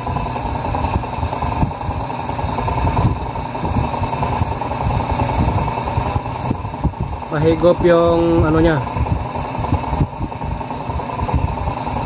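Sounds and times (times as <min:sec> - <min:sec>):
exhaust fan whirring: 0:00.0 - 0:12.0.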